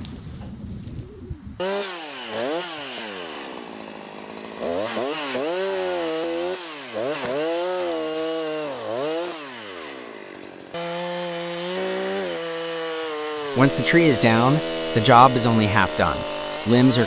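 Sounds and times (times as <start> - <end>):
chainsaw engine revving: 1.6 - 17.0.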